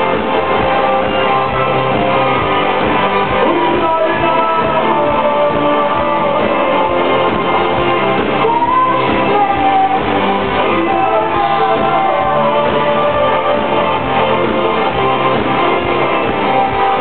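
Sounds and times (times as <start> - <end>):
live rock band playing: 0.0 - 17.0
person singing: 3.2 - 17.0.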